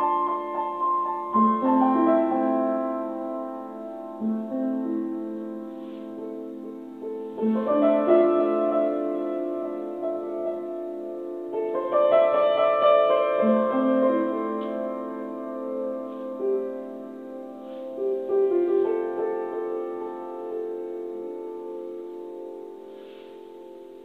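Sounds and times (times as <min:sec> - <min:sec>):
solo piano playing: 0:00.0 - 0:24.0.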